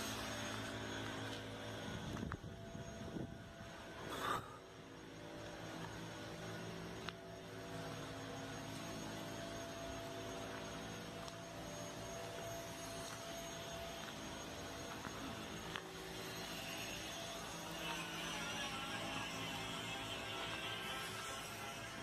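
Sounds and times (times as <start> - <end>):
hum of held tones: 0.0 - 22.0.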